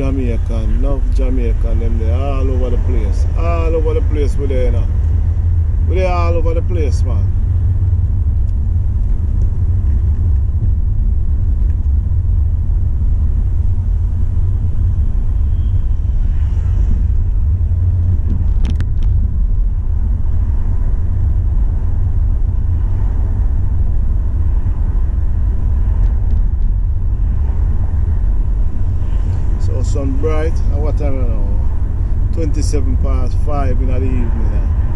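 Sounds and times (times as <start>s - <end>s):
car driving rumble from inside: 0.0s - 34.9s.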